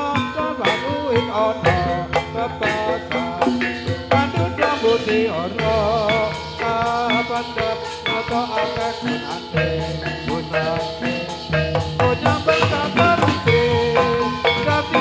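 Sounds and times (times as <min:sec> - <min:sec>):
low drum beat: 0:00.0 - 0:15.0
ringing metallophone notes: 0:00.0 - 0:15.0.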